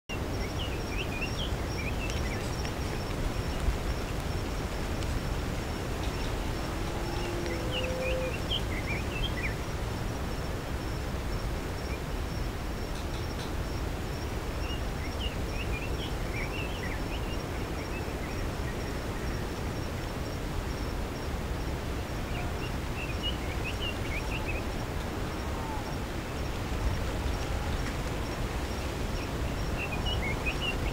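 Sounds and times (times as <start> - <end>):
birds chirping: 0.1 - 10.9, 14.5 - 20.1, 22.0 - 30.9
steady background noise: 0.1 - 30.9.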